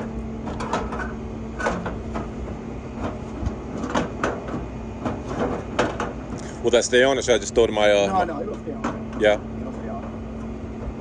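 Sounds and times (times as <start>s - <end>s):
engine lid knocking and scraping: 0.0s - 11.0s.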